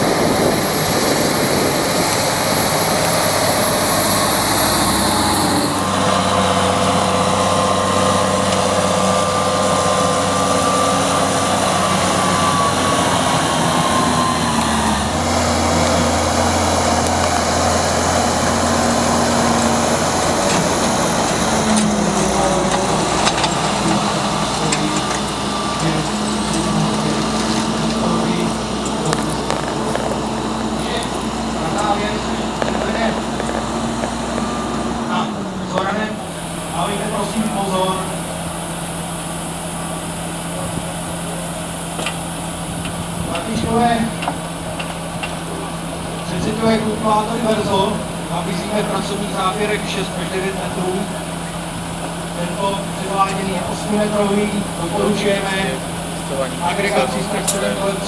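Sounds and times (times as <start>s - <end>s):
tractor diesel engines running: 0.0s - 58.0s.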